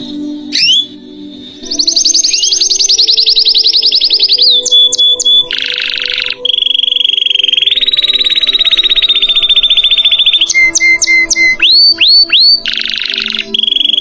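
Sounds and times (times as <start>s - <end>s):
canary singing trills: 0.4s - 1.0s, 1.6s - 14.0s.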